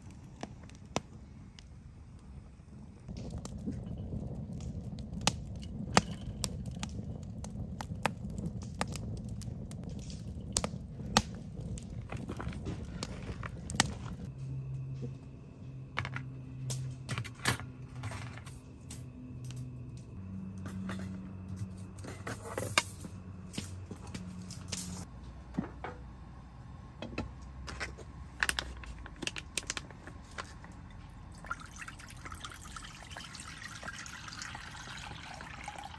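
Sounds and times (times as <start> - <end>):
wood fire crackling and popping: 0.0 - 25.1, 27.5 - 35.9
low steady hum: 0.0 - 35.9.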